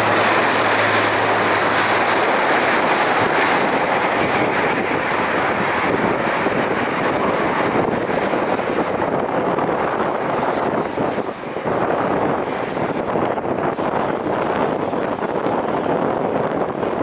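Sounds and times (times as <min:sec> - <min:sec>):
turboprop aircraft roaring: 0:00.0 - 0:17.0.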